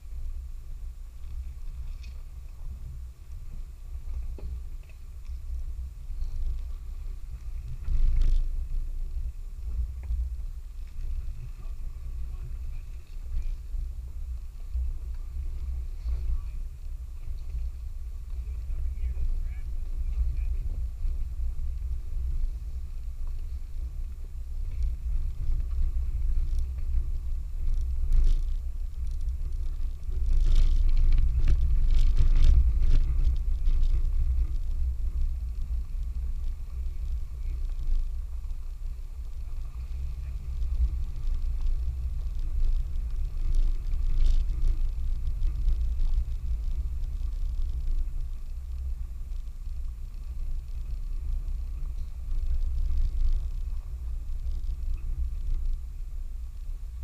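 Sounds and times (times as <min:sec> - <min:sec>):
vehicle engine and tyres rumbling: 0:00.0 - 0:57.0.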